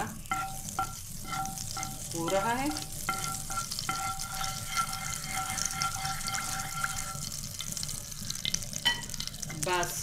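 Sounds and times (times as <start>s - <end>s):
oil sizzling in a small pan: 0.0s - 10.0s.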